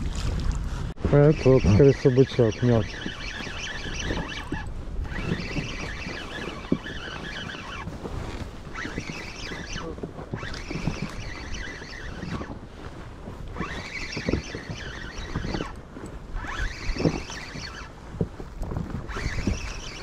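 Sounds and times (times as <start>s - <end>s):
wind on microphone: 0.0s - 20.0s
spinning reel gears whining: 1.1s - 20.0s.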